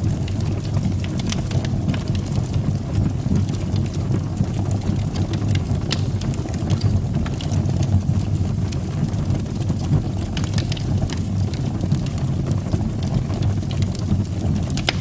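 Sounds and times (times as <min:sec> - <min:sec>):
fire crackling and popping: 0:00.0 - 0:15.0
fire rumbling in fireplace: 0:00.0 - 0:15.0.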